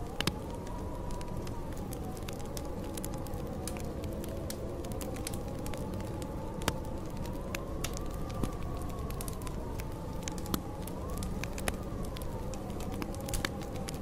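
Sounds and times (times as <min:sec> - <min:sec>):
fire crackling and popping: 0:00.0 - 0:14.0
wind howling: 0:00.0 - 0:14.0.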